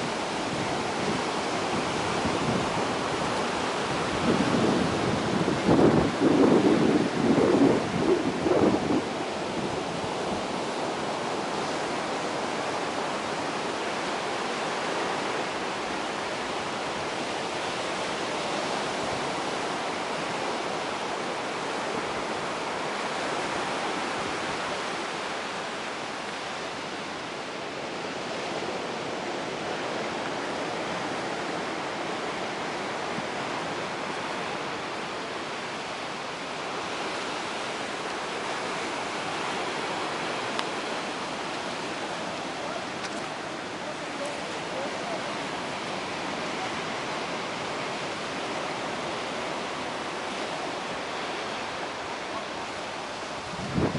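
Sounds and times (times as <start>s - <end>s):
waves breaking on rocky shore: 0.0s - 53.9s.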